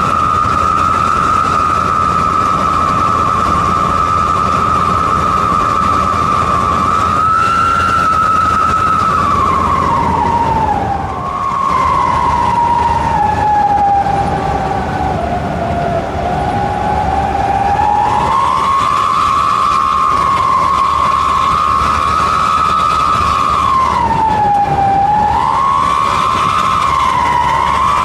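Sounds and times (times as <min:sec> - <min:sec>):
engine running: 0:00.0 - 0:28.0
exhaust whistle howling: 0:00.0 - 0:28.0.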